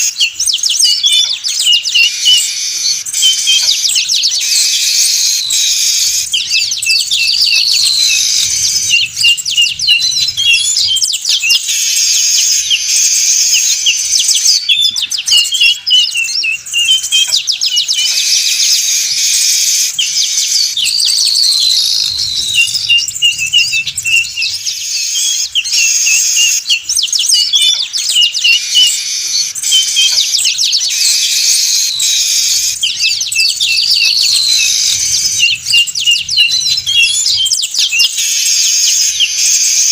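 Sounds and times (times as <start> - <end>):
weaver birds chorus: 0.0 - 39.9.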